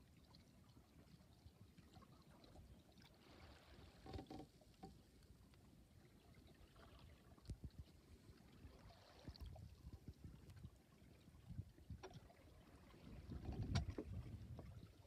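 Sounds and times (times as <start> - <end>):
water sloshing along boat hull: 0.0 - 15.0.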